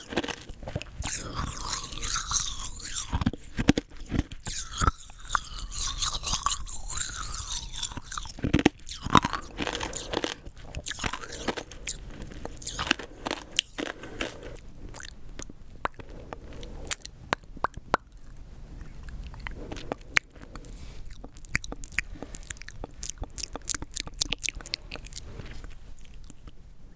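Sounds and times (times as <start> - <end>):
hard candy crunching in teeth: 0.0 - 26.6.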